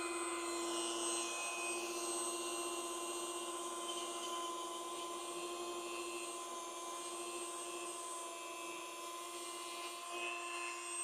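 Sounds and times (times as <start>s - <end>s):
rotary tool high-pitched whine: 0.0s - 11.0s.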